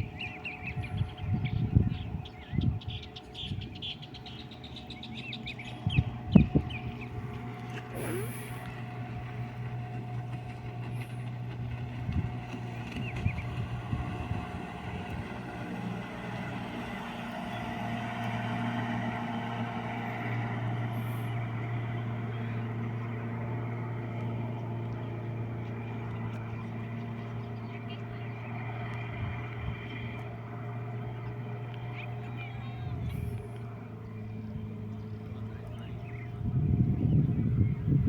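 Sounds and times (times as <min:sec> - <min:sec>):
motorboat engine running: 0:00.0 - 0:38.0.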